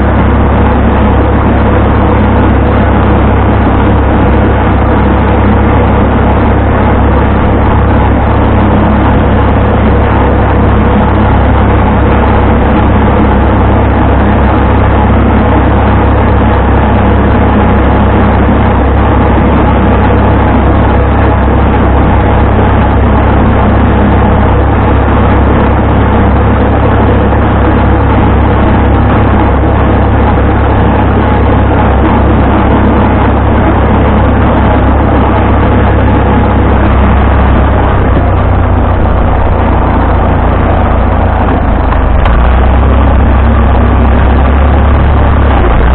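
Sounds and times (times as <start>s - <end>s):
tractor engine running under load: 0.0s - 45.9s.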